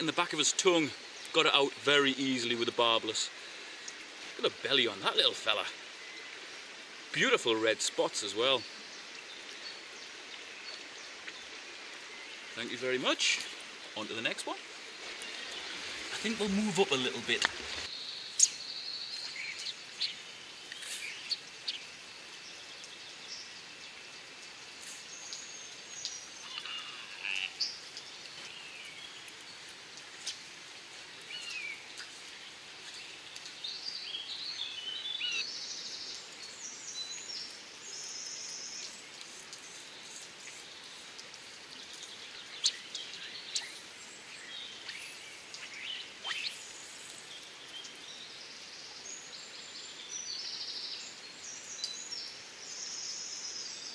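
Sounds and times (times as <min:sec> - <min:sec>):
steady outdoor hiss: 0:00.0 - 0:53.9
birds chirping: 0:07.1 - 0:53.9.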